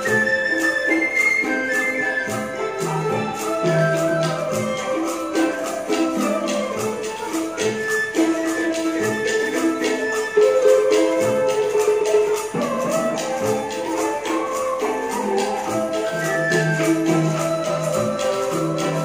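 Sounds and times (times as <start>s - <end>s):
jingling hand percussion: 0.0s - 19.0s
plucked zither and strings: 0.0s - 19.0s.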